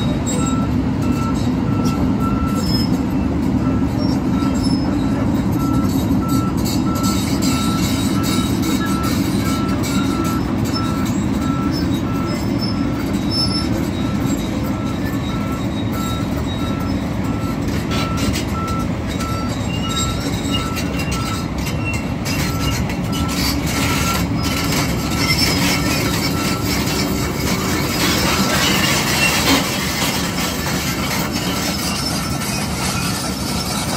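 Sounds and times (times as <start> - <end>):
excavator diesel engine running: 0.0 - 33.9
travel alarm beeping: 0.0 - 33.9.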